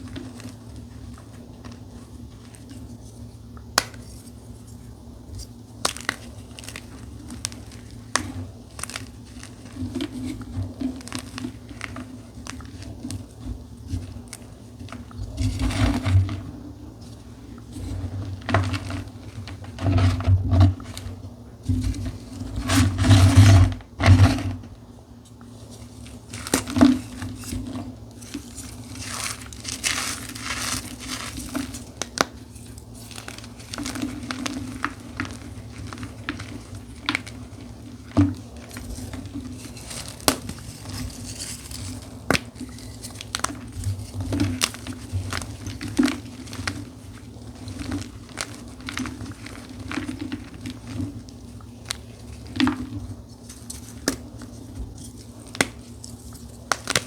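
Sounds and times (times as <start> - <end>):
chalk crushed by hand crunching: 0.0 - 57.0.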